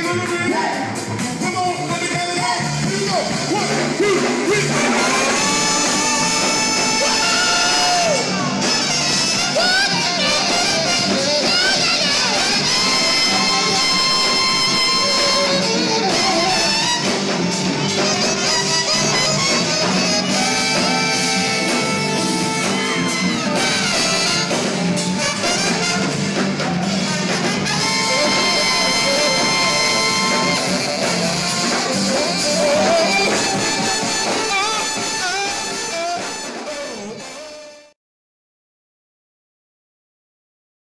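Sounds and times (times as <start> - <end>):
live band playing upbeat song: 0.0 - 38.0.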